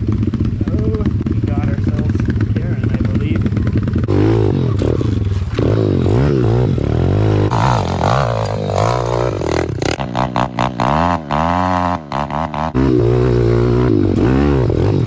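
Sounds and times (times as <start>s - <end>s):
small motorbike engines revving: 0.0s - 15.0s.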